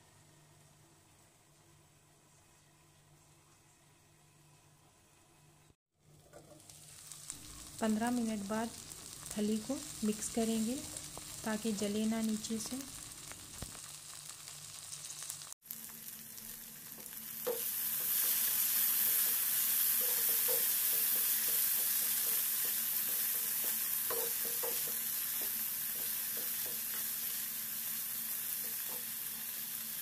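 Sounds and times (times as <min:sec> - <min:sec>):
beans sizzling in oil: 0:06.0 - 0:30.0.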